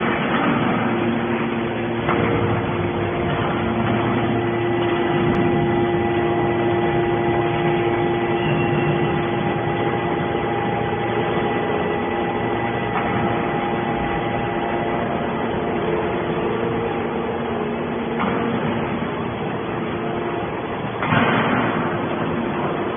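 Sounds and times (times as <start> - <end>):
baler machine drone: 0.0 - 22.9
steady machine whine: 0.0 - 22.9.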